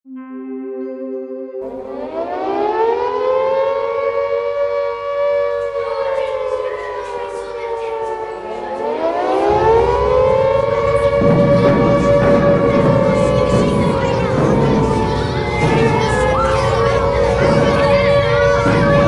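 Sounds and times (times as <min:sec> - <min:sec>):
air raid siren wailing: 0:00.8 - 0:19.0
low rumbling noise: 0:01.6 - 0:19.0.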